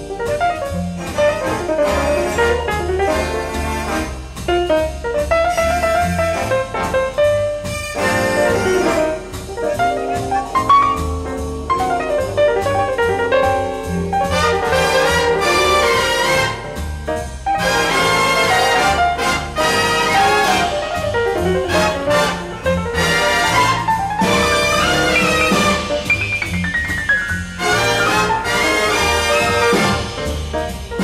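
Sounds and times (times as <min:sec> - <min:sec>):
big band jazz: 0:00.0 - 0:31.0.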